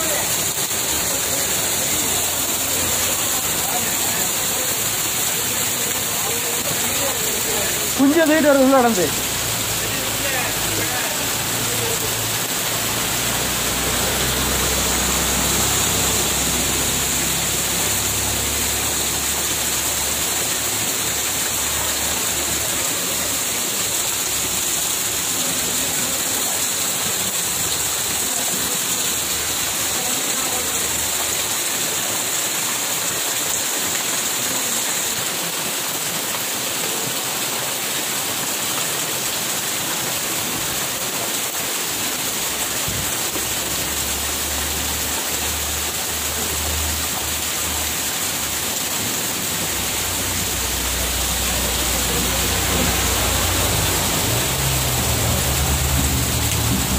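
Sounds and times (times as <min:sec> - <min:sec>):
floodwater rushing: 0:00.0 - 0:56.9.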